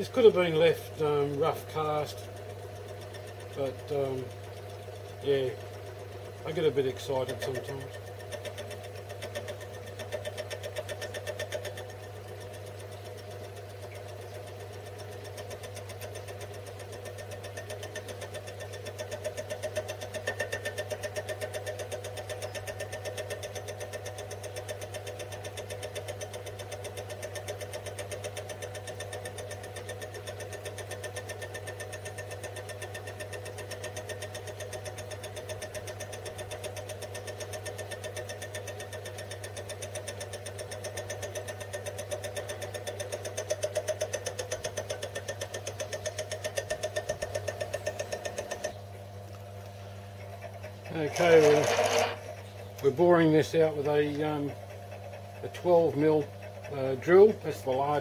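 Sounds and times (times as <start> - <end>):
lathe humming with fast pulsing: 0.0 - 58.0.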